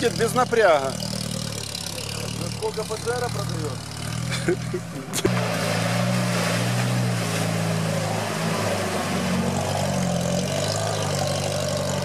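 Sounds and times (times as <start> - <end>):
churned water and mud: 0.0 - 12.0
engine working under load: 0.0 - 12.0.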